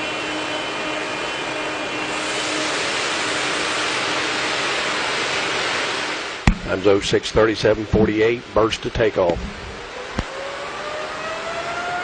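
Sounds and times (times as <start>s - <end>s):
jet engine rushing noise: 0.0s - 12.0s.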